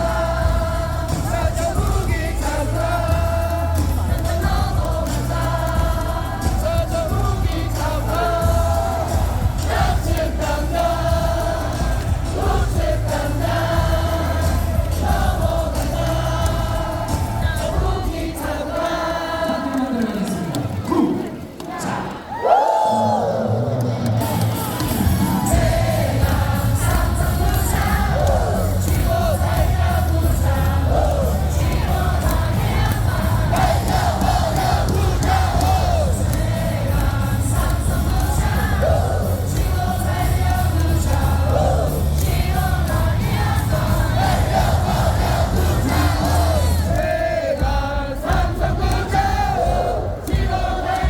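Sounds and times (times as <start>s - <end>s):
loudspeaker music with heavy bass: 0.0s - 21.6s, 23.5s - 51.0s
crowd singing in unison: 0.0s - 51.0s.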